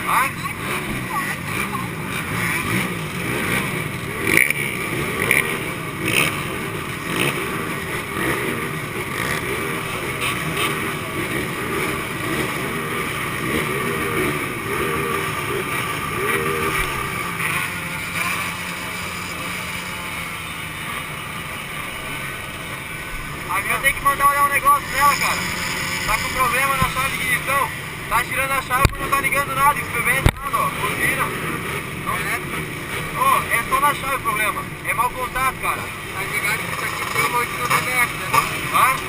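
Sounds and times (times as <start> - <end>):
two-stroke motorcycle engines revving: 0.0 - 39.0.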